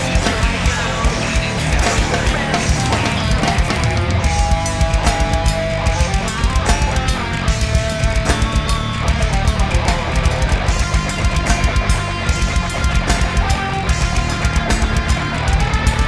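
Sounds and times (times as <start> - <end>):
drum hits: 0.0 - 16.0
guitar holding notes: 0.0 - 16.0
heavy bass: 0.0 - 16.0.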